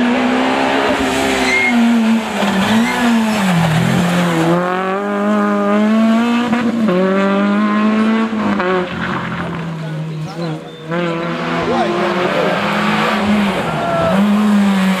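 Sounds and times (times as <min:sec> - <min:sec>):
rally car engine revving past: 0:00.0 - 0:15.0.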